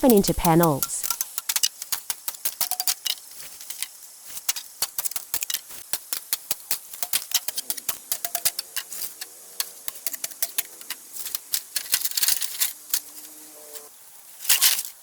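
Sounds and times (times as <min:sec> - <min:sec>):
blade cracking bamboo: 0:01.0 - 0:13.1.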